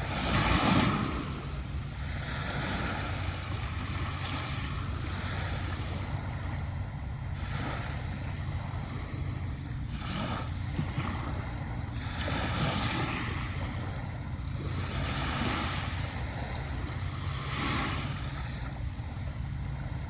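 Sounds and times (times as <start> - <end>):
low rumble: 0.0 - 20.0
waves washing up a beach: 0.0 - 20.0.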